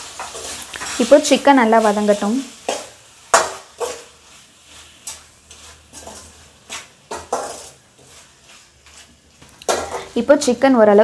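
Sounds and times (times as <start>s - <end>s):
metal spoon scraping a pan: 0.0s - 8.6s, 9.6s - 10.2s
pan sizzling: 0.0s - 11.0s.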